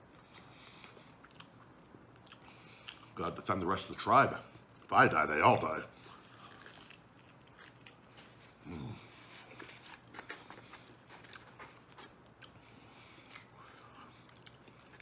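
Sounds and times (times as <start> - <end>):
man chewing food: 0.0 - 3.4, 4.4 - 4.9, 5.6 - 15.0.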